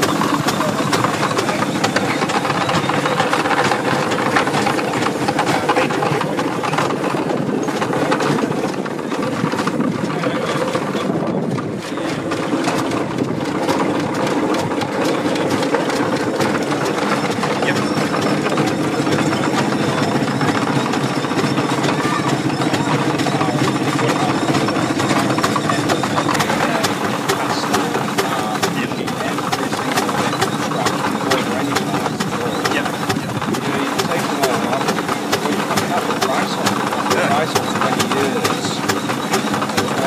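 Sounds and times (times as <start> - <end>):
threshing machine humming and clattering: 0.0 - 40.0.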